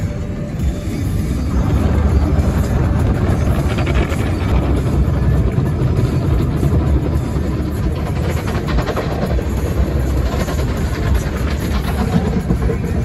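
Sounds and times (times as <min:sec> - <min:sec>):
car wash brushes scrubbing car: 0:01.6 - 0:13.0.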